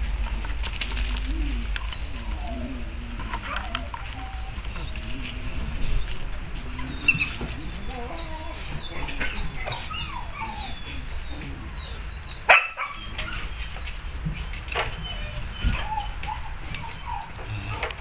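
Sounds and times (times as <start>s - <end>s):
dog whimpering: 1.4s - 13.8s, 14.8s - 18.0s.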